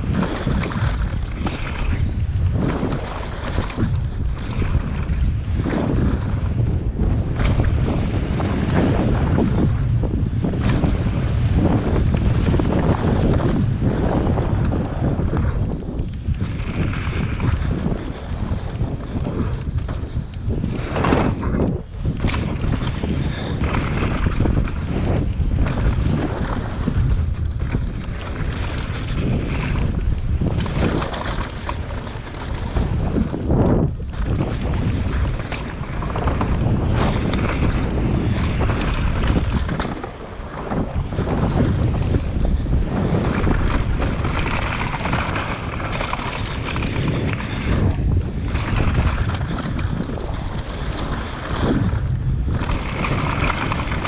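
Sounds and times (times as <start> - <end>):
bike knocks and rattles: 0.0 - 54.0
tyres rolling over dirt trail: 0.0 - 54.0
wind buffeting microphone: 0.0 - 54.0.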